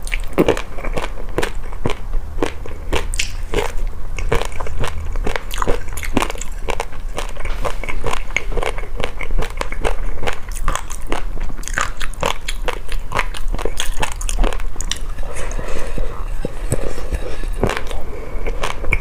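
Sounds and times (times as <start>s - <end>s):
person chewing crunchy food: 0.0s - 19.0s.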